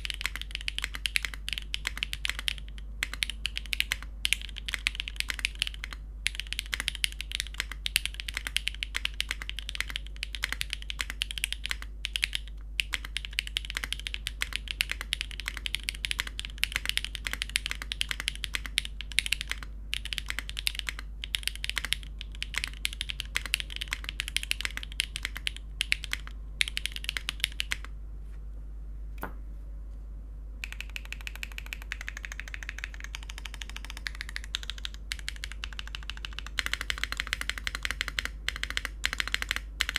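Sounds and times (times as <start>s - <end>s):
mechanical keyboard key clacks: 0.0s - 27.9s, 30.6s - 39.9s.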